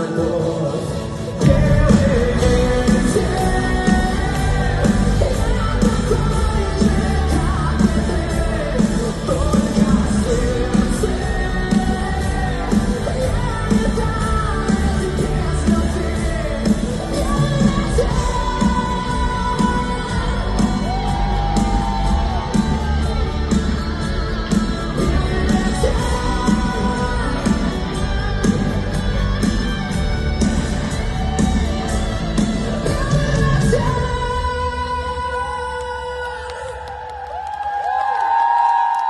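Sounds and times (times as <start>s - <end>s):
live rock band playing: 0.0s - 35.5s
steady drumbeat: 1.4s - 34.4s.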